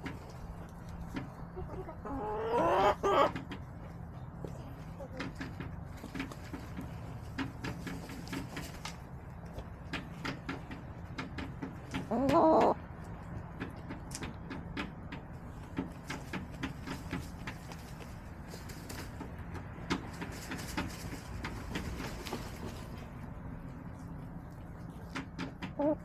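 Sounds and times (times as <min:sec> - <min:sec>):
hens pecking and scratching: 0:00.0 - 0:26.0.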